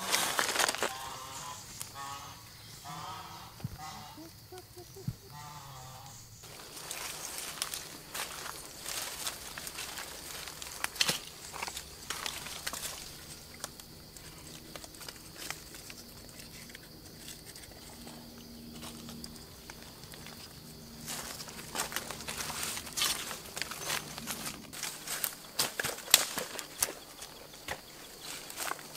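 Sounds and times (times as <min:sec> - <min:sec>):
dry leaves rustling underfoot: 0:00.0 - 0:01.8, 0:06.4 - 0:28.9.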